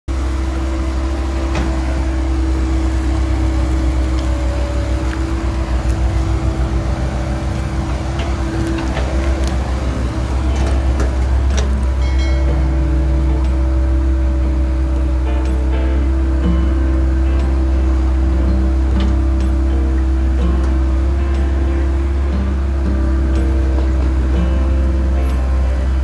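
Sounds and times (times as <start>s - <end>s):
hydraulic pump humming and whining: 0.1s - 26.0s.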